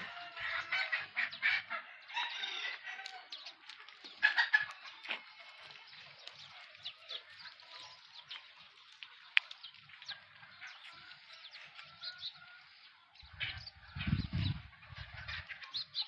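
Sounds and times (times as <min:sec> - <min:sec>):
chickens chirping and clucking: 0:00.0 - 0:16.0.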